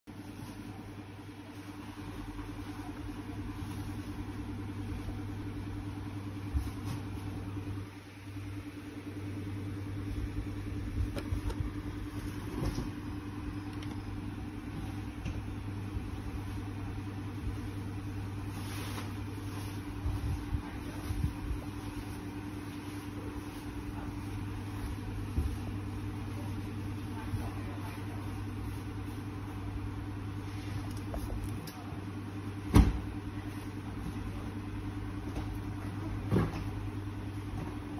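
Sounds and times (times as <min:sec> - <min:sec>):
steady low hum: 0:00.1 - 0:37.9.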